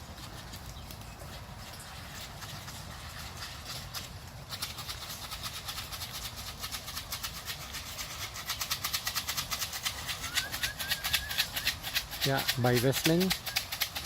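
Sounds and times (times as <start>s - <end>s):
grain feed rattling in plastic box: 2.5s - 14.0s.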